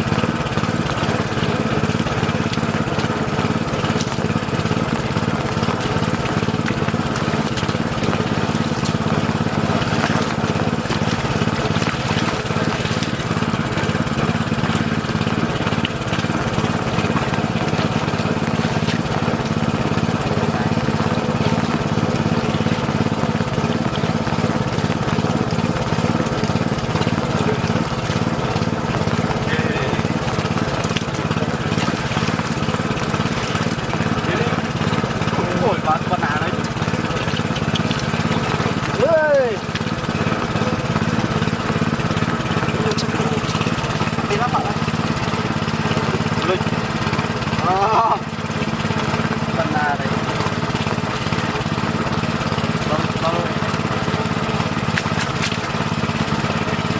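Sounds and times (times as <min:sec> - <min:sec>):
small engine water pump running: 0:00.0 - 0:56.9.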